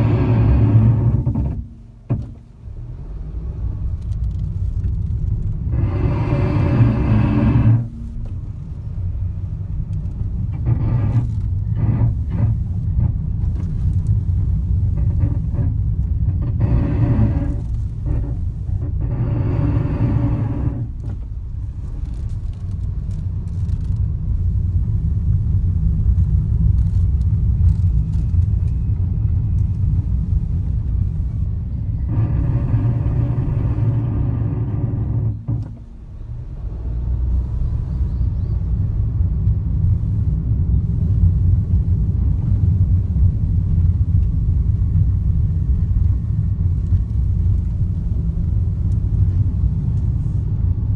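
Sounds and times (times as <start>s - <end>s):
brakes grinding metallically: 0.0s - 50.9s
car rumbling on road: 0.0s - 50.9s.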